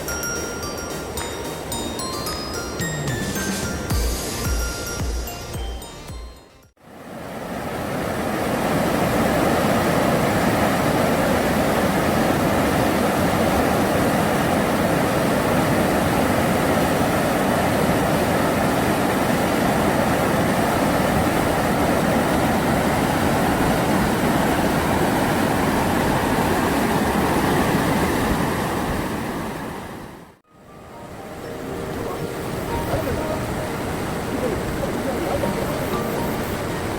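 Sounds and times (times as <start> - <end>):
stream water rushing: 0.0 - 5.0, 6.8 - 36.9.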